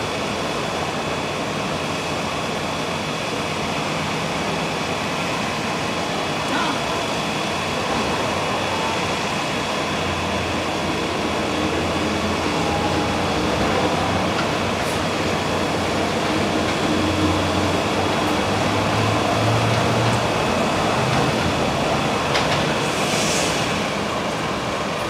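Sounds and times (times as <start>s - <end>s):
monorail train passing: 0.0s - 25.0s.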